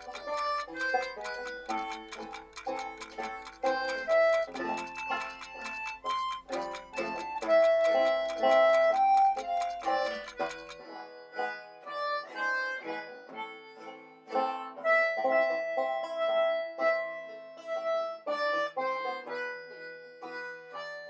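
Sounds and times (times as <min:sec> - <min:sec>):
bright instrumental melody: 0:00.0 - 0:21.0
plucked string accompaniment: 0:00.0 - 0:21.0.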